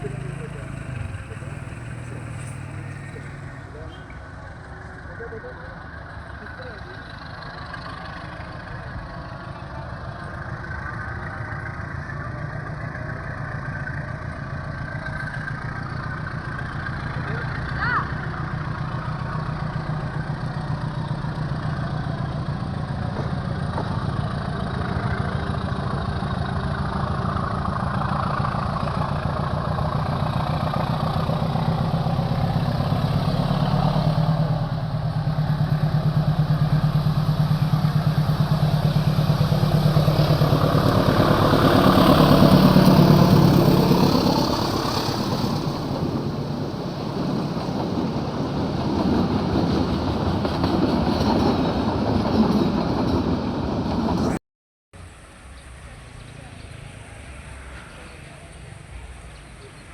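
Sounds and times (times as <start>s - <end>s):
vehicle engine humming: 0.0s - 54.4s.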